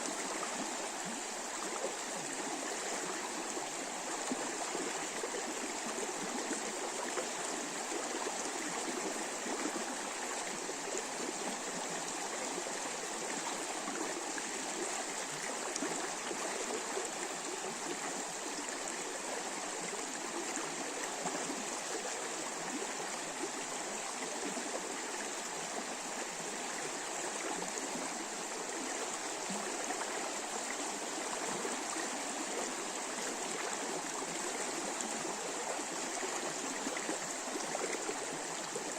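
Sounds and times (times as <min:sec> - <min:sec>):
river water rushing and babbling: 0:00.0 - 0:38.9.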